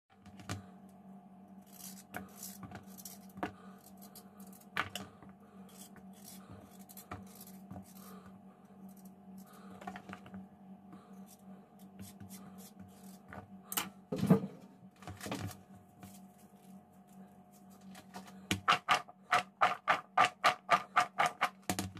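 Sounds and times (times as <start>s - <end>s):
steady low hum: 0.1s - 21.8s.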